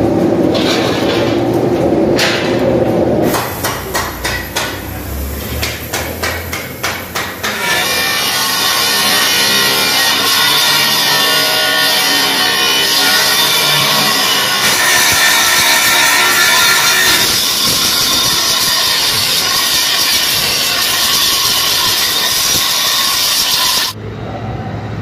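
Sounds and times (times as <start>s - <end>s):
angle grinder on steel: 3.3s - 24.0s.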